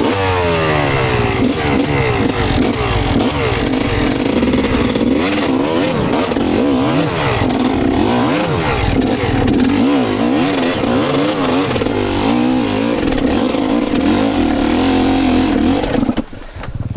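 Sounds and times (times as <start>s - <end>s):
motorcycle engine revving: 0.0s - 16.6s.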